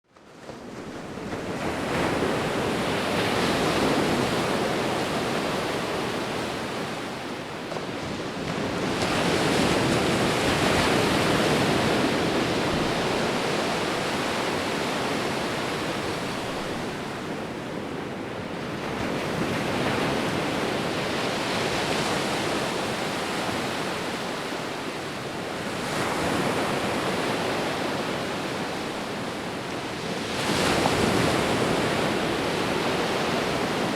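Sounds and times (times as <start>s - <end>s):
sea waves breaking: 0.3s - 33.9s.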